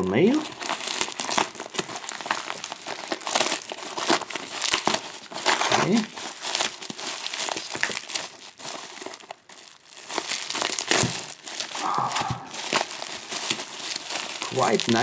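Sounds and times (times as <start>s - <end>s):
packing material crinkling: 0.0s - 15.0s
packaging tearing: 0.2s - 15.0s.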